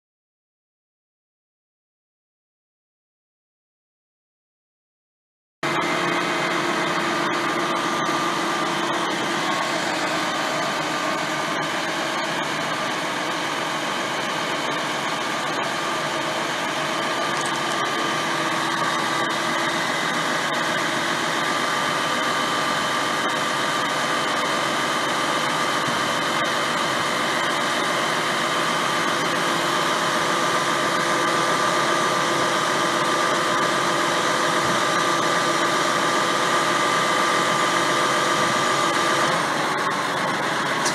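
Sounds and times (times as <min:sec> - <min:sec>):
truck engine and hydraulics whining: 0:05.6 - 0:40.9.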